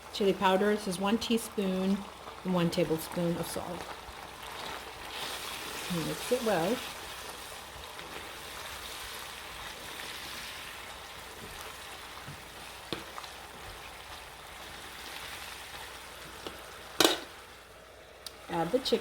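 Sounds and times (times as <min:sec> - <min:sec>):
sauce sizzling in a wok: 0:00.0 - 0:19.0.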